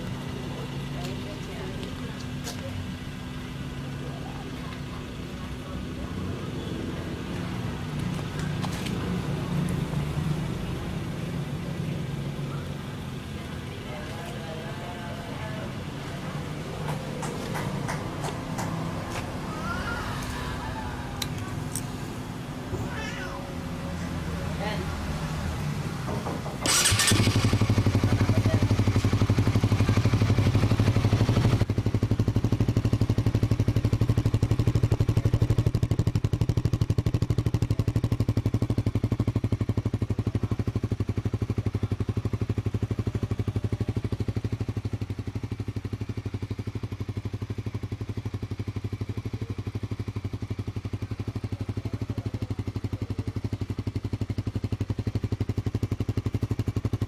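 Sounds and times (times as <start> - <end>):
motorcycle engine starting and idling: 0.0 - 57.0.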